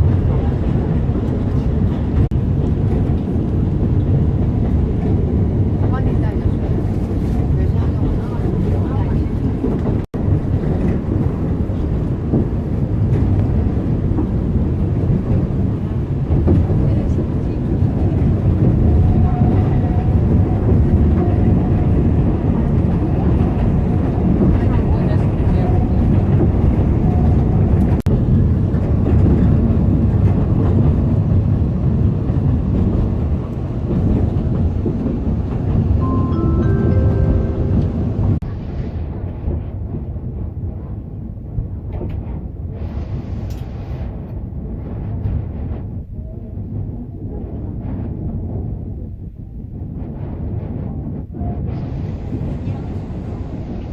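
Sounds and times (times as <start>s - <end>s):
train rumbling: 0.0s - 53.9s.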